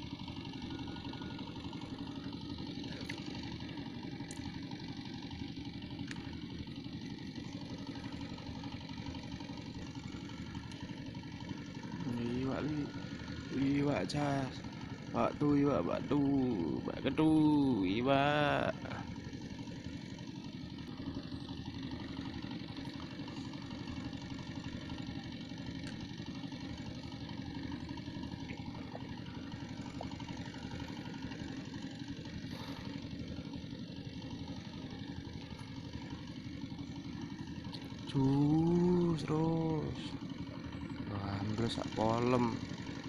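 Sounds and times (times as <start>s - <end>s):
small engine idling: 0.0s - 43.0s.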